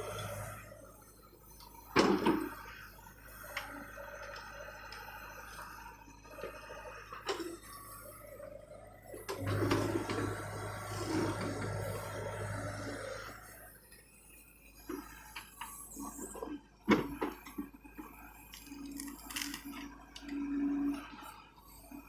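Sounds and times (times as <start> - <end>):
excavator engine humming: 0.0 - 22.0.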